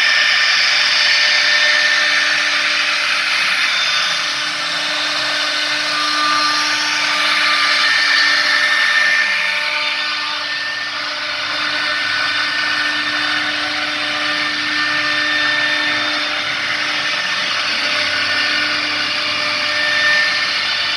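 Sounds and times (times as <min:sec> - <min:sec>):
router cutting noise: 0:00.0 - 0:20.9
router spindle whine: 0:00.0 - 0:20.9.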